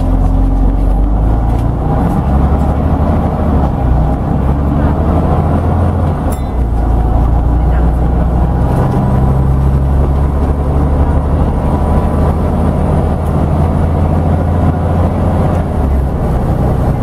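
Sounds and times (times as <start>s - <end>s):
bus interior low rumble: 0.0s - 17.0s.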